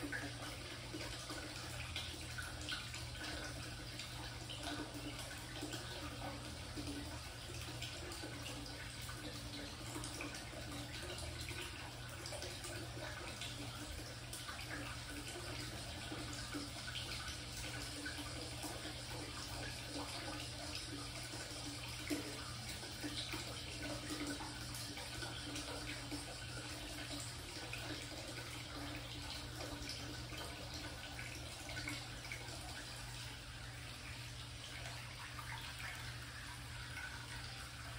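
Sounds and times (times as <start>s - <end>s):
water trickling and splashing: 0.0s - 37.9s.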